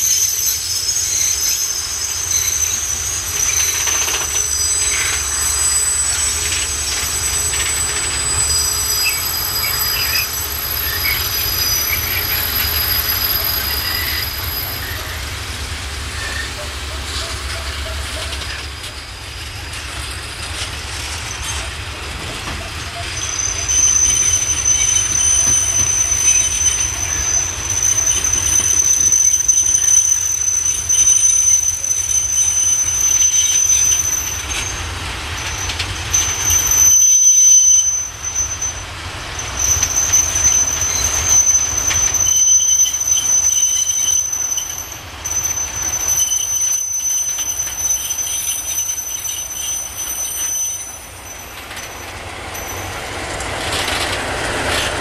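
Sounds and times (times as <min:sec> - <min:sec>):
train low rumble: 0:00.0 - 0:55.0
train wheels squealing on rails: 0:00.0 - 0:55.0.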